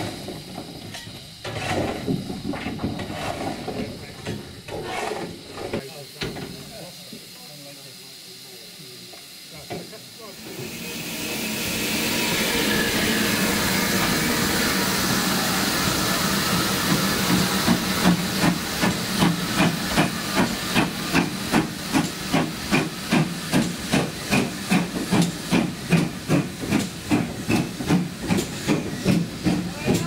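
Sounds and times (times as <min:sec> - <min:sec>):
steam hissing: 0:00.0 - 0:30.0
steam locomotive exhaust beats: 0:05.8 - 0:30.0.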